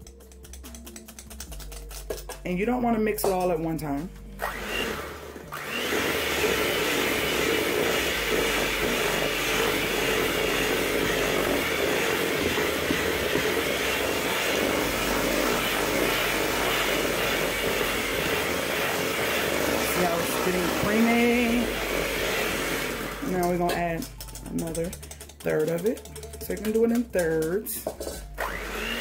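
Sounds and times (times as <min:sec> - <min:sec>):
electric hand mixer running: 0:04.4 - 0:27.2, 0:27.9 - 0:29.0.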